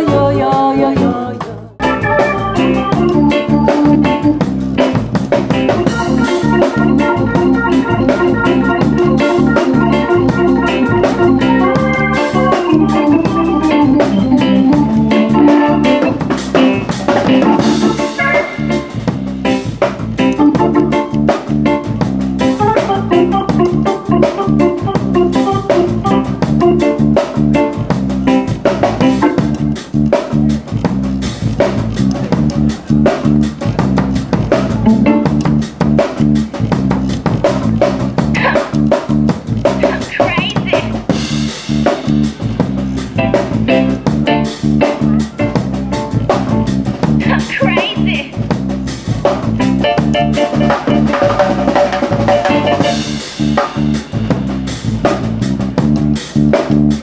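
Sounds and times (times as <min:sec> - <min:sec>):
reggae band playing: 0:00.0 - 0:57.0.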